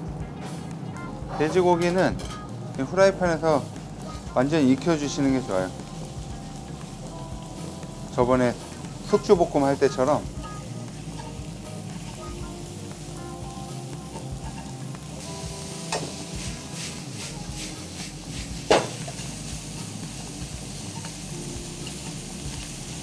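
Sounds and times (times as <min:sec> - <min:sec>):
meat and onion sizzling in pan: 0:01.3 - 0:23.0.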